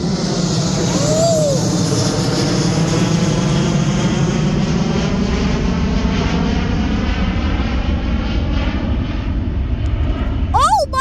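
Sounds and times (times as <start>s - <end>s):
jet airliner passing: 0.0s - 11.0s.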